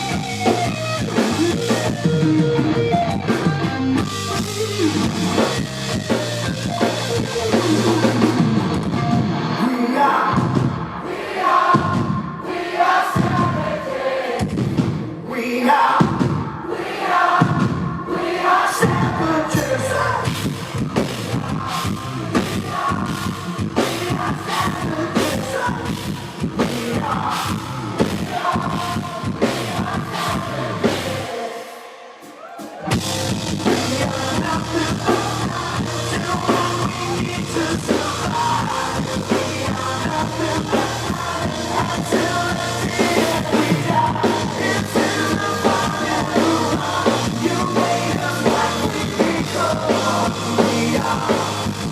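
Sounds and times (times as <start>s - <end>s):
live rock band playing: 0.0s - 11.0s, 18.8s - 31.4s, 32.3s - 51.9s.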